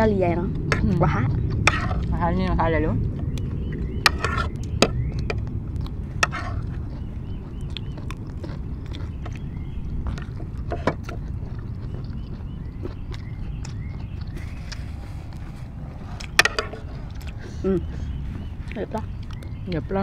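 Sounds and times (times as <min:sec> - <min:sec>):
low outdoor rumble: 0:00.0 - 0:20.0
people chewing food: 0:00.0 - 0:20.0.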